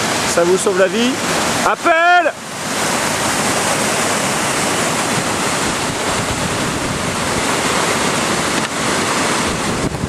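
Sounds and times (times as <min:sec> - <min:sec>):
whitewater rushing: 0:00.0 - 0:10.0.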